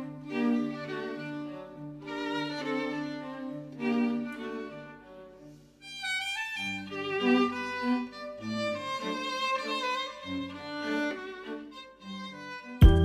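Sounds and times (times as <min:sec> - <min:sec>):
violin melody over strings: 0:00.0 - 0:13.0.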